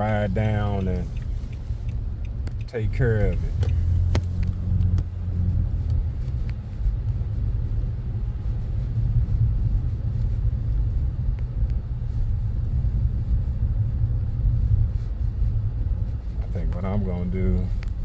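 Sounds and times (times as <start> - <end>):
car tyre and engine rumble: 0.0 - 18.0.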